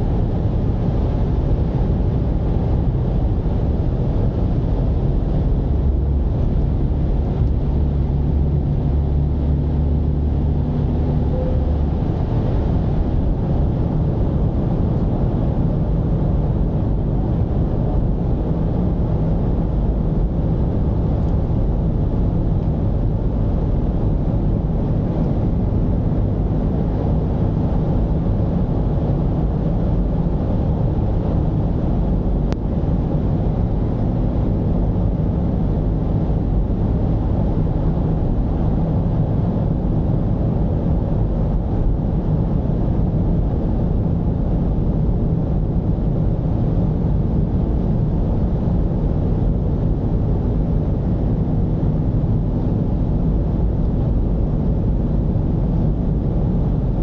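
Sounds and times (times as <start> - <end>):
diesel engine running: 0.0 - 57.0
road rumble: 0.0 - 57.0.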